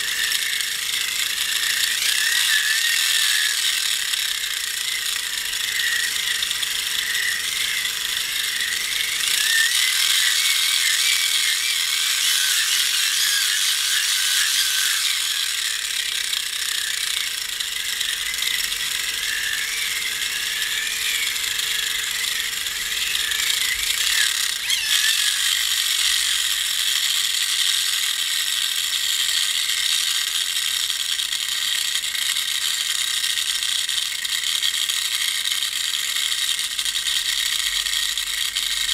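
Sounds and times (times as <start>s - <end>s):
hand-crank generator whirring: 0.0s - 38.9s.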